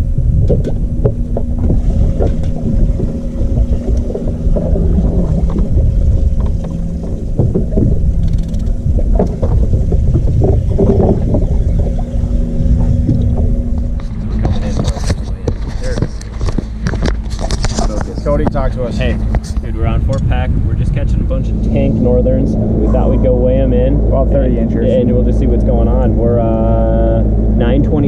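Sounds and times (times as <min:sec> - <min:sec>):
outboard motor running: 0:00.0 - 0:28.0
wind buffeting microphone: 0:00.0 - 0:28.0.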